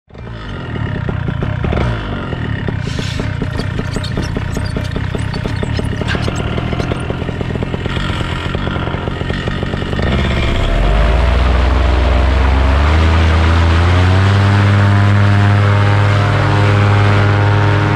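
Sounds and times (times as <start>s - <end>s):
paramotor engine revving: 0.1s - 17.9s.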